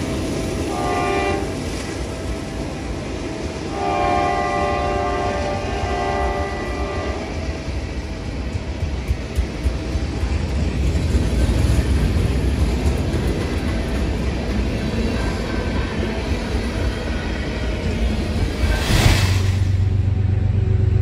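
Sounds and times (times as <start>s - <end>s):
train rumbling by: 0.0s - 21.0s.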